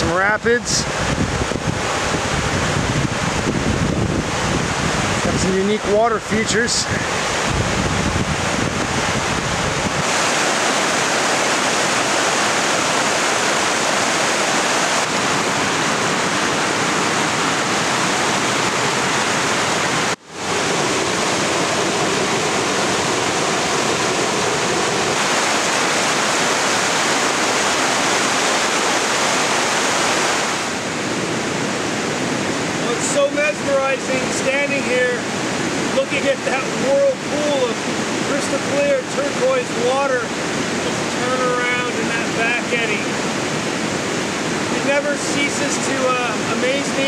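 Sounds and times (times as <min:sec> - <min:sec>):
rapids rushing over boulders: 0:00.0 - 0:47.0.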